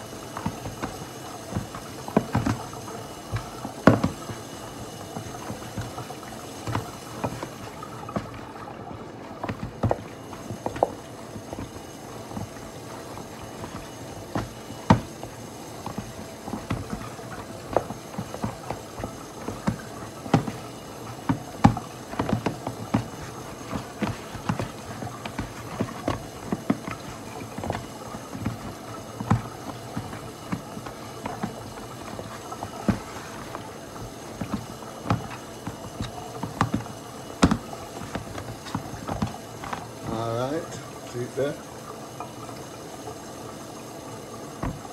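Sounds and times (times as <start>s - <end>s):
dough kneaded in plastic bowl: 0.0s - 41.6s, 43.6s - 44.9s.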